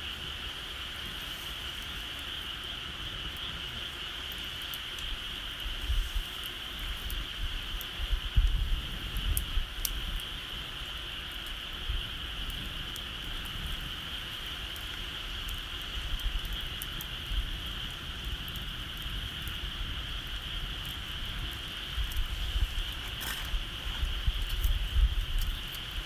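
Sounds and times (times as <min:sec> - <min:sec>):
bonfire crackling: 0:00.0 - 0:26.0.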